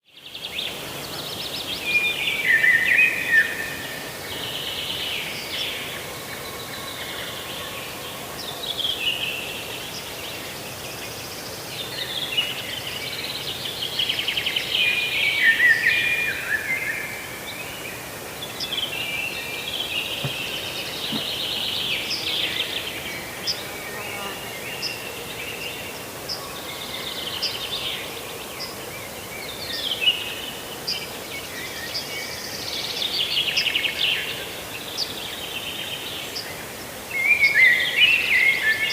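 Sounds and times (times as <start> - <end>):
songbirds singing trills: 0.1 - 38.9.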